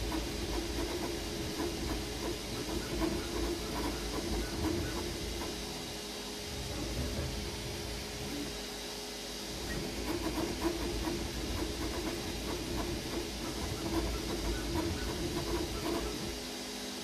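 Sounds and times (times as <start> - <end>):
stepper motors humming: 0.0 - 16.6
cooling fans hissing: 0.0 - 17.0.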